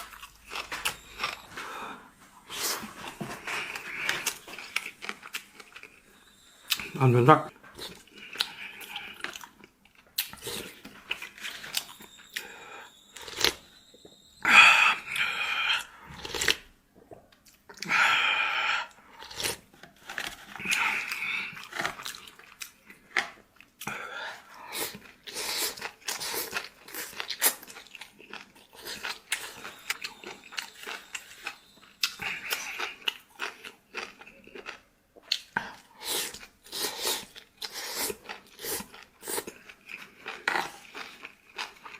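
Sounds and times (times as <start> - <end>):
person chewing and crunching food: 0.0 - 14.2, 14.8 - 41.9.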